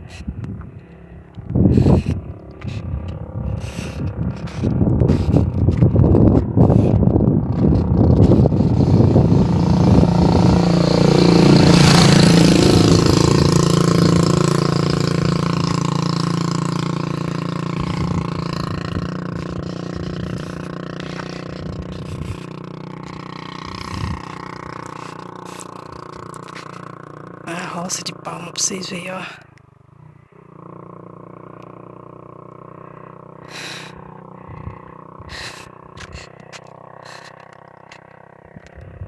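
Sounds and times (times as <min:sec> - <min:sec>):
vehicle engine passing: 0:00.8 - 0:38.8.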